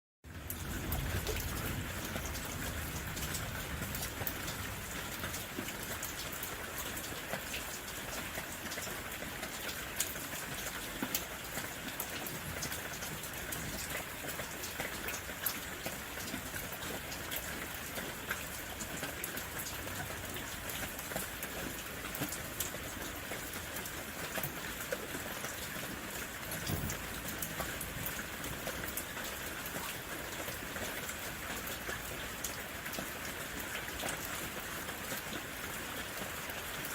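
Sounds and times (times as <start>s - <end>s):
rain pattering on leaves: 0.3s - 36.9s.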